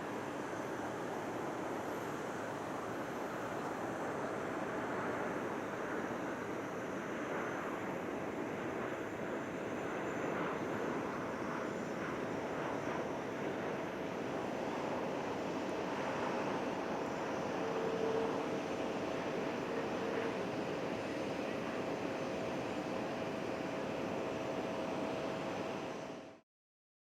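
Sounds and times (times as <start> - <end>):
jet engine noise: 0.0 - 26.4.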